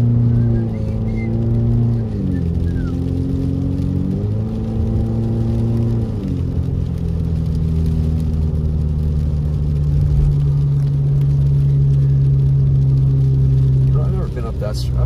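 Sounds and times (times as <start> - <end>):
car engine and road hum: 0.0 - 15.0.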